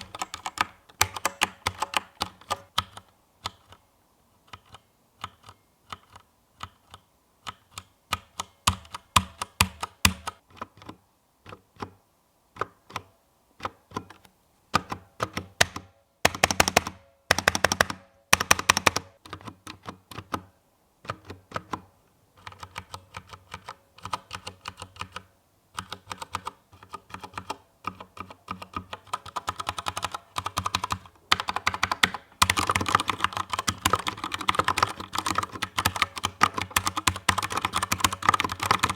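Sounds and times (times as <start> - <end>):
mechanical keyboard typing: 0.0 - 3.8, 4.4 - 11.9, 14.8 - 21.8, 22.4 - 38.9.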